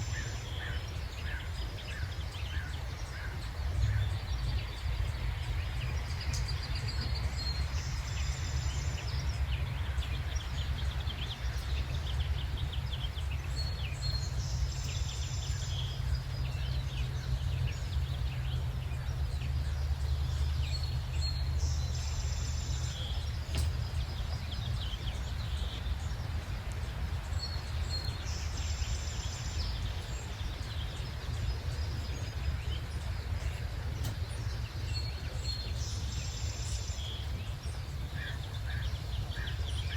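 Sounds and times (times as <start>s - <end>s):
birds chirping: 0.0s - 39.9s
steady low rumble: 0.0s - 39.9s.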